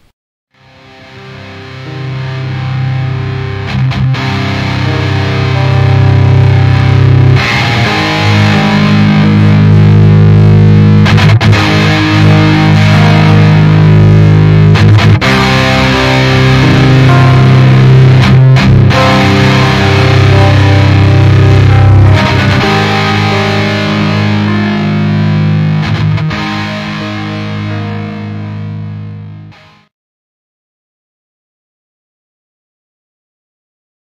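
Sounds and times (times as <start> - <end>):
distorted electric guitar rock music: 0.6 - 29.9.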